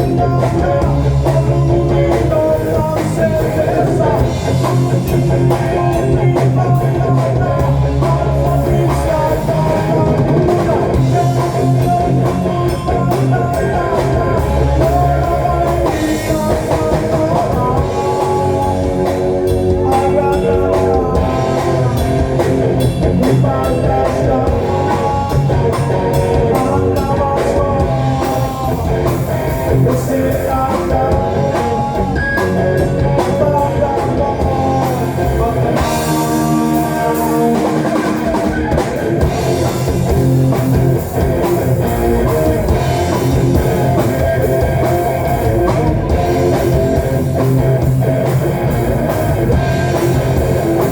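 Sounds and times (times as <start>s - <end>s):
rock music with singing: 0.0s - 50.9s.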